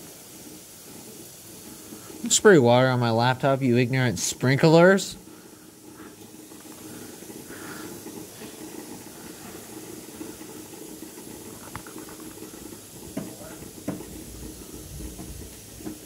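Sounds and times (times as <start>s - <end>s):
water spraying hiss: 0.0s - 16.0s.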